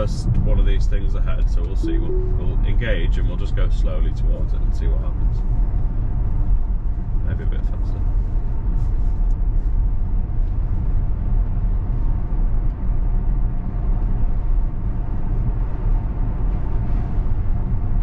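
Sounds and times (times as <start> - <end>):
road and tyre rumble in car: 0.0 - 1.8, 2.9 - 18.0.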